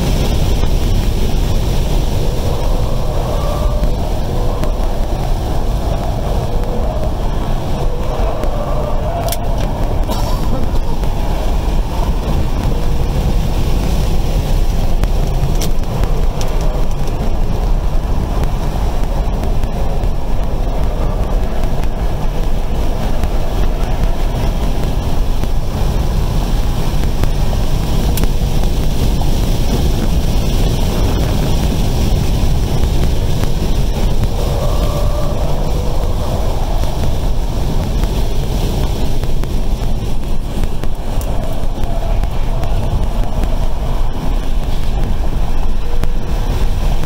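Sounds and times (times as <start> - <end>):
wind and road noise: 0.0 - 47.0.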